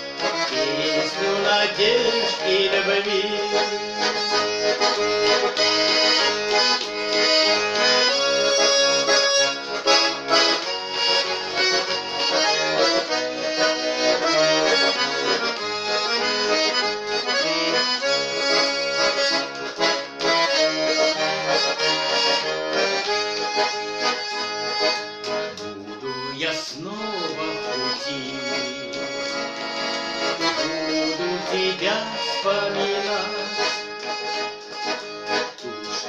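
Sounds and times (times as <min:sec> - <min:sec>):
button accordion melody: 0:00.0 - 0:36.0.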